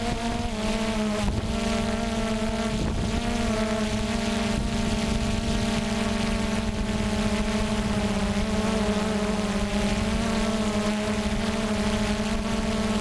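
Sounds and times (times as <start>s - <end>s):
drone propellers buzzing: 0.0s - 13.0s
wind rumble on microphone: 0.0s - 13.0s.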